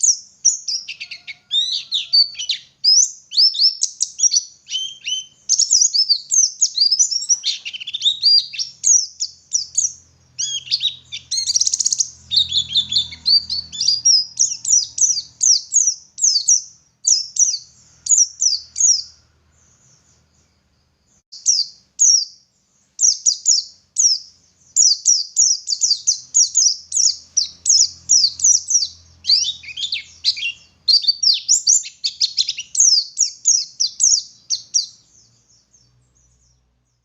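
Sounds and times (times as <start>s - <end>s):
bird singing high chirps: 0.0s - 37.0s.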